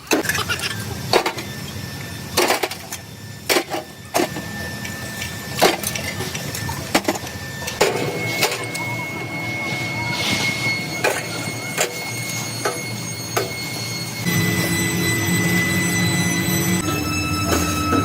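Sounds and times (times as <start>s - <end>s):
workshop machinery humming: 0.0s - 18.0s.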